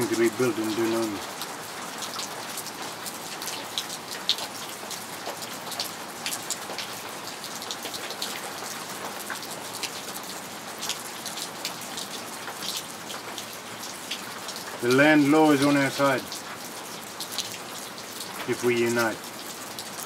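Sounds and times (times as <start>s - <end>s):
raindrops striking close by: 0.0s - 20.0s
steady rain: 0.0s - 20.0s.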